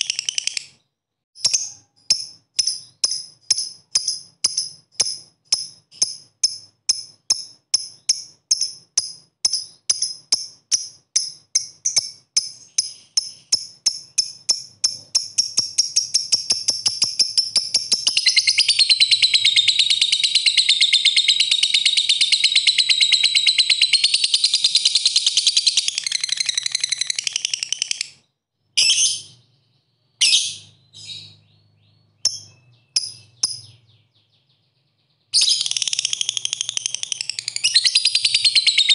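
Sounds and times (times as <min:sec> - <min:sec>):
lovebird ticking and trilling: 0:00.0 - 0:00.8, 0:01.4 - 0:38.9
shrill bird chirps: 0:00.0 - 0:38.9.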